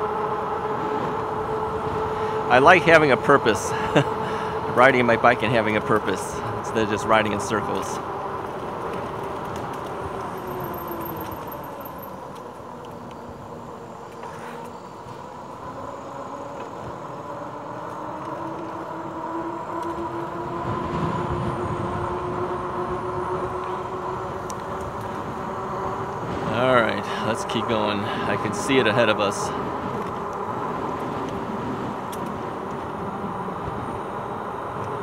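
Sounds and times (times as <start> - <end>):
wind noise: 0.0 - 35.0
electric bike motor whining: 0.1 - 35.0.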